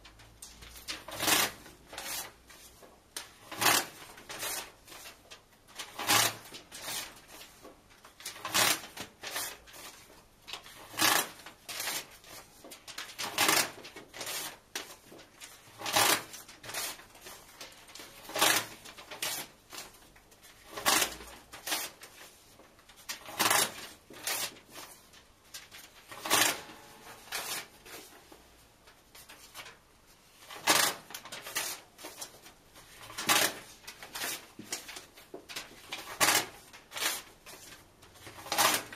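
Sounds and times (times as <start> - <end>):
paper tearing: 0.6 - 5.1, 5.8 - 7.5, 8.2 - 22.3, 22.9 - 28.1, 30.4 - 38.9.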